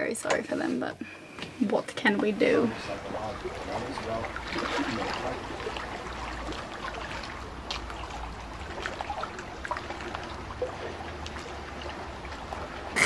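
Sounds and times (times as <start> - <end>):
water lapping against hull: 0.6 - 13.0
small splashes: 2.4 - 13.0.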